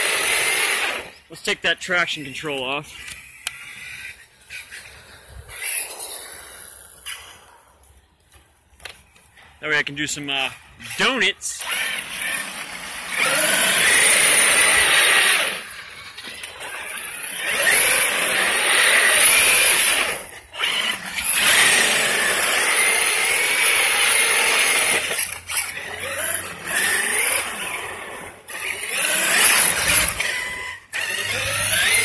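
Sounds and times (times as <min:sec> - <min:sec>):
electric rc car whining: 0:00.0 - 0:01.5, 0:02.8 - 0:09.6, 0:10.4 - 0:32.0.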